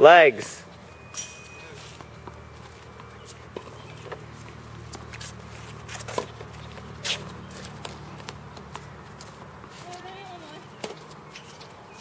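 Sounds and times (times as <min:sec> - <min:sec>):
footsteps on hard court: 0:01.4 - 0:12.0.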